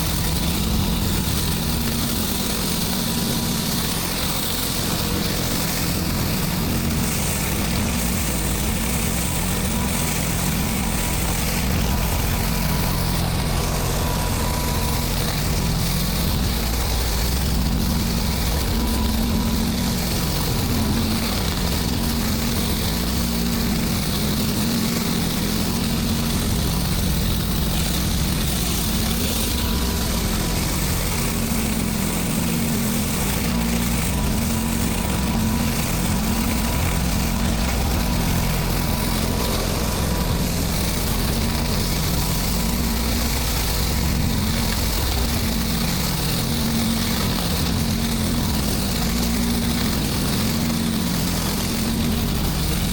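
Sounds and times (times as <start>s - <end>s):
pressure washer engine running: 0.0s - 52.9s.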